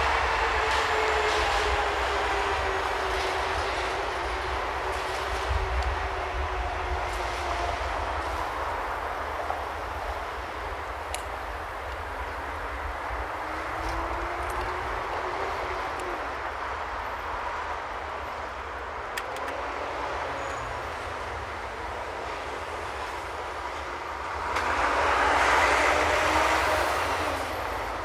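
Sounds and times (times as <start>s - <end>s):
city street traffic rumble: 0.0s - 28.0s.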